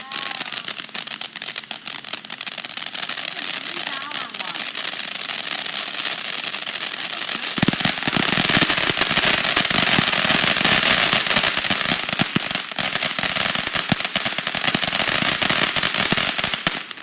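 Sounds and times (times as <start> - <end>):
firework crackling: 0.0 - 17.0
firework hissing: 0.0 - 17.0.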